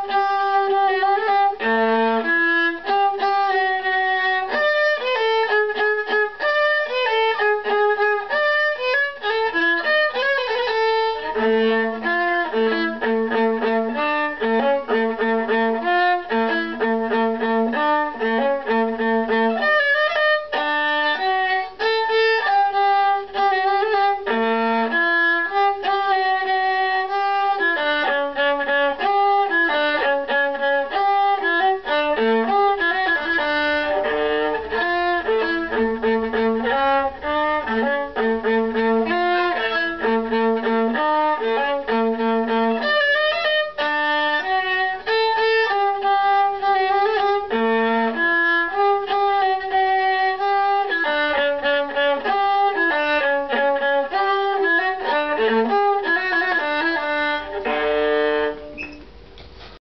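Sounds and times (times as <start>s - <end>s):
solo bowed viola: 0.0s - 59.8s.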